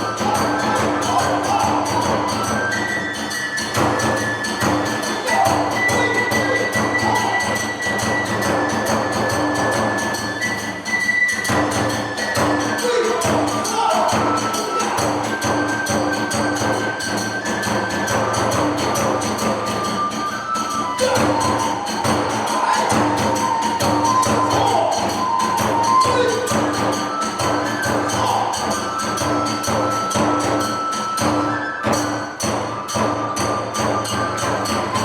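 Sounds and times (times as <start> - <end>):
bamboo flute long high notes: 0.0 - 35.0
steady drum strokes: 0.0 - 35.0.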